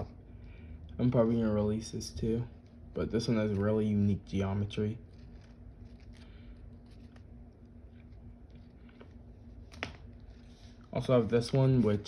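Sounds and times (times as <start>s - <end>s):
faint steady hum: 0.0s - 12.0s
paper rustling and crinkling: 2.0s - 12.0s.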